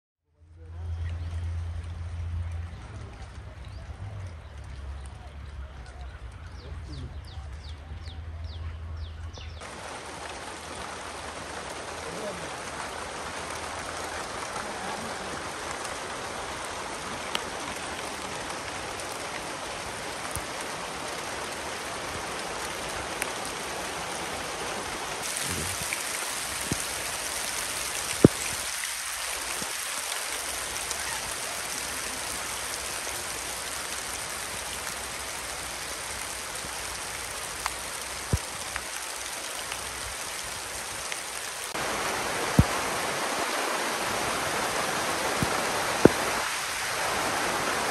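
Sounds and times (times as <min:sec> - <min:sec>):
steady rain falling: 0:00.3 - 0:47.9
rain drop ticks: 0:00.5 - 0:08.5, 0:09.4 - 0:24.4, 0:25.2 - 0:41.8, 0:42.4 - 0:42.8, 0:45.2 - 0:46.6.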